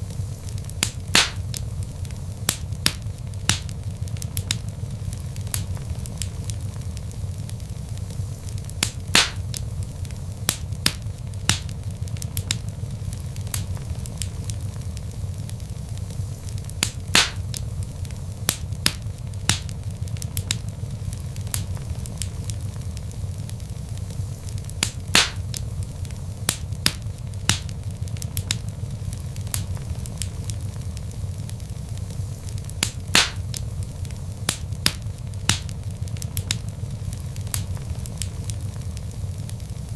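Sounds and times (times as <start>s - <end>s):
log fire crackling: 0.0s - 39.9s
sharp fire pops: 0.0s - 39.9s.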